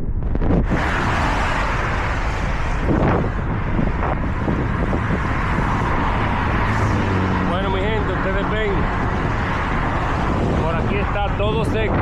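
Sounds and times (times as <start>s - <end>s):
wind noise on microphone: 0.0s - 12.0s
road traffic: 0.1s - 12.0s.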